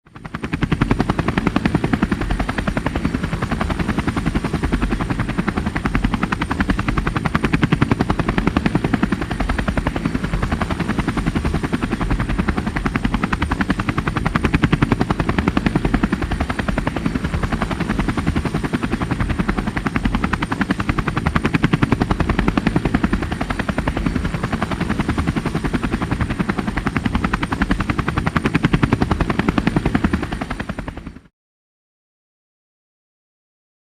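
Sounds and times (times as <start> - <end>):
helicopter rotor chopping: 0.1 - 31.3.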